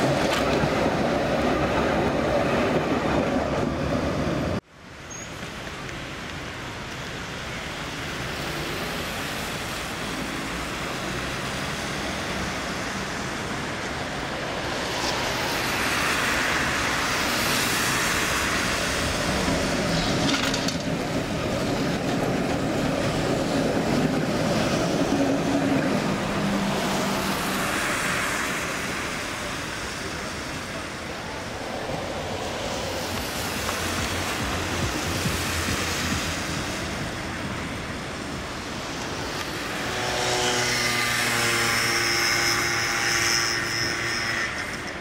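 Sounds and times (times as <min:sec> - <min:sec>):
road traffic passing: 0:00.0 - 0:45.0
tram running on track: 0:00.0 - 0:45.0.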